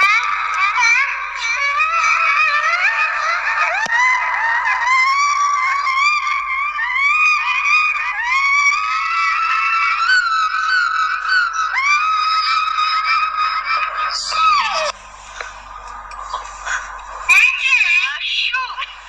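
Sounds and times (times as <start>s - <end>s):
chorus of swooping high cries: 0.0s - 19.0s.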